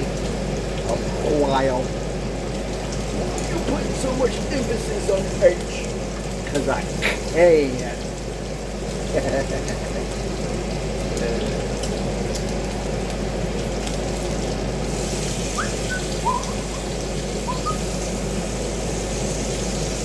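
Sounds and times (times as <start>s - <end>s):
bacon sizzling in a frying pan: 0.0s - 20.0s.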